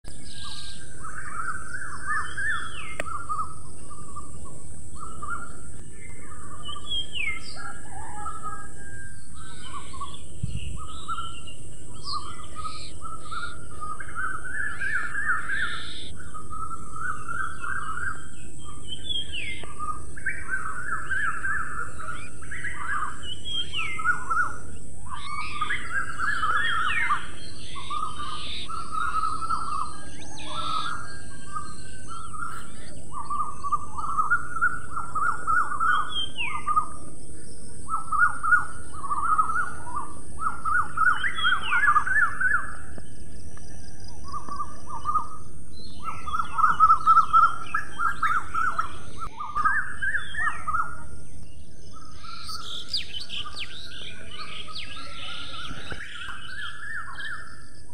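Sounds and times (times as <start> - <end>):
birds chirping and calling: 0.0 - 57.9
steady high hiss: 8.6 - 57.9.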